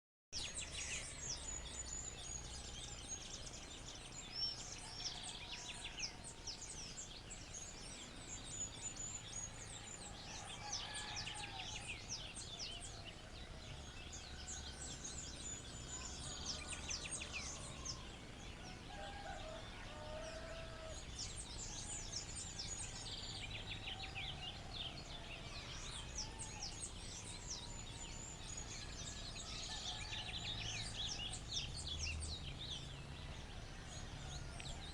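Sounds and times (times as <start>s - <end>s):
birds chirping and trilling: 0.4s - 34.9s.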